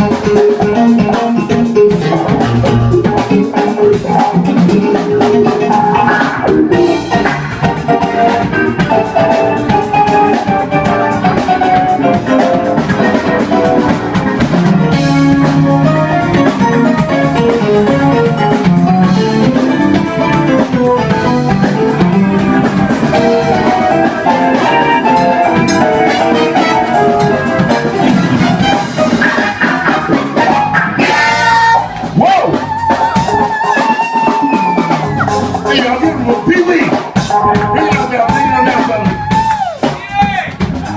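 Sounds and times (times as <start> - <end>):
drum kit beat: 0.0 - 40.9
live funk-blues band: 0.0 - 40.9.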